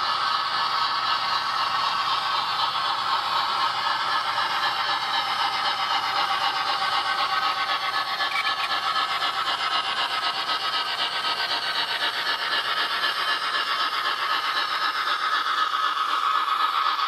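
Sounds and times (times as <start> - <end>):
model train rhythmic hiss: 0.0 - 17.0.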